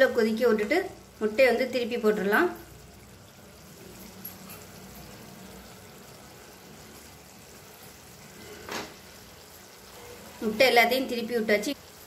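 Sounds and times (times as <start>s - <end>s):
gravy simmering in a pan: 0.0s - 12.0s.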